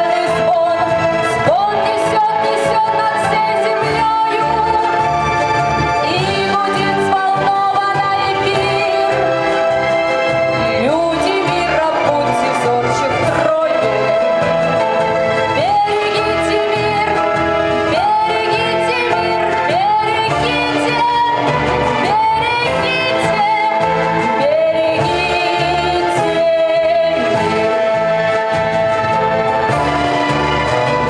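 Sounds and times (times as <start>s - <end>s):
woman singing: 0.0s - 5.3s, 6.0s - 9.6s, 10.7s - 14.4s, 15.4s - 28.7s
instrumental backing track: 0.0s - 31.0s.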